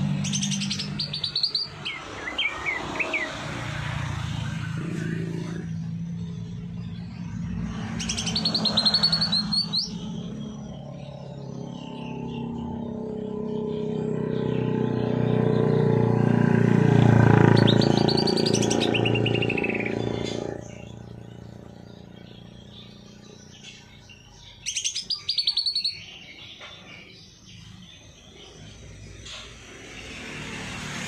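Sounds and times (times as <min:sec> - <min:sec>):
songbird chattering trills: 0:00.0 - 0:03.3, 0:05.0 - 0:15.7, 0:17.3 - 0:29.5.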